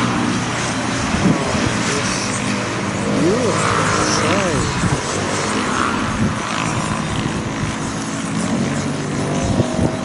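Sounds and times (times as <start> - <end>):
low engine-like hum: 0.0 - 10.0
wind on microphone: 0.0 - 10.0.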